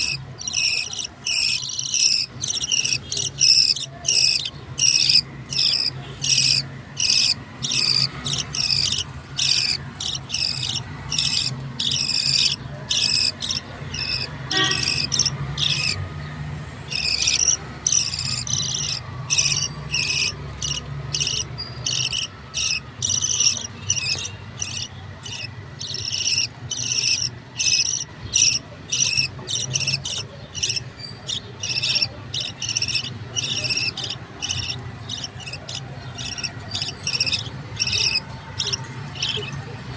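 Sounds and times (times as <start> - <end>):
chicks raspy begging calls: 0.0 - 39.9.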